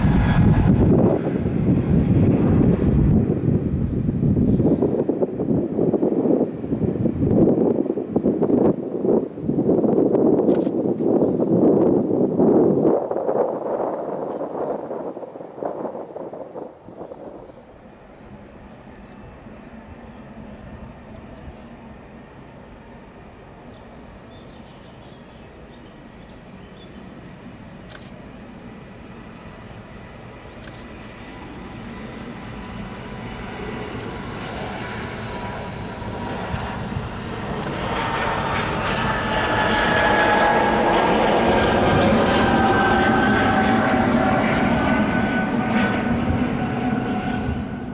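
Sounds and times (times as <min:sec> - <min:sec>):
jet airliner taking off: 0:00.0 - 0:47.9
jet engine whine: 0:00.0 - 0:47.9.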